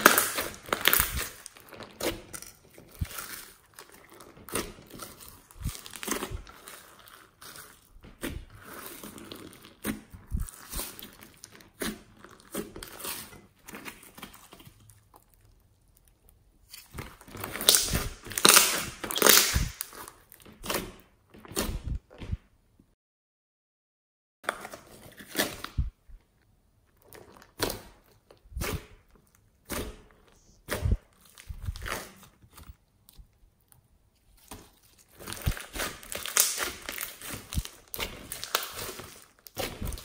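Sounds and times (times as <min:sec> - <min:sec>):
slime crackling and squishing: 0:00.0 - 0:22.4, 0:25.2 - 0:40.0.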